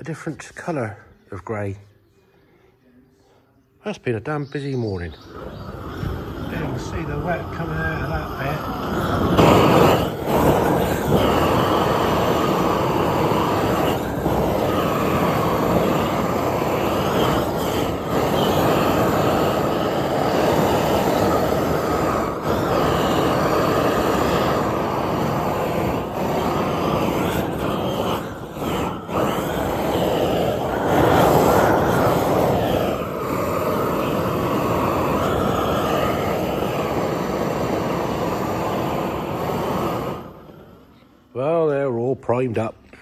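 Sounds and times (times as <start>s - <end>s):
paint spray gun hissing: 5.2s - 40.8s.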